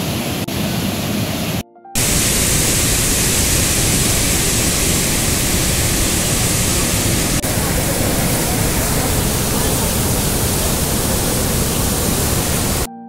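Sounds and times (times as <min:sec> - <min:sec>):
white water rushing: 0:02.0 - 0:12.9.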